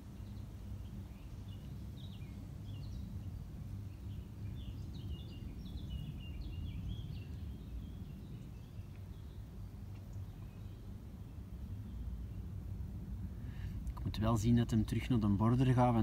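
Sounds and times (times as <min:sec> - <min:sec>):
small birds chirping and singing: 0:00.0 - 0:12.7, 0:13.4 - 0:16.0
low background drone: 0:00.0 - 0:16.0.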